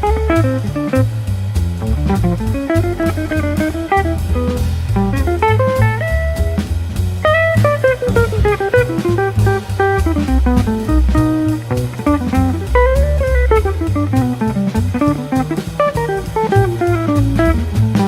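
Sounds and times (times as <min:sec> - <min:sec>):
light jazz-blues guitar music: 0:00.0 - 0:18.0.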